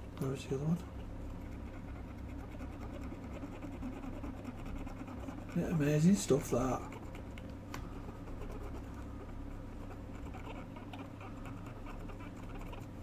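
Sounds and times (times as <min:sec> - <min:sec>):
steady low hum: 0:00.0 - 0:13.0
cotton bud scratching circuit board: 0:01.3 - 0:13.0.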